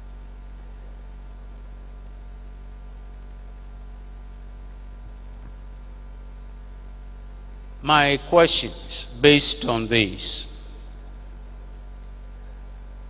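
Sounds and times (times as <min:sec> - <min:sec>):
constant hiss: 0:00.0 - 0:13.0
electrical mains hum: 0:00.0 - 0:13.0.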